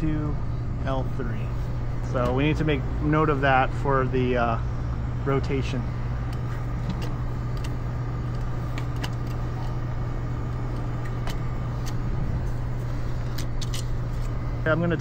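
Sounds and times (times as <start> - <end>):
faint steady whine: 0.0 - 15.0
low machinery hum: 0.0 - 15.0.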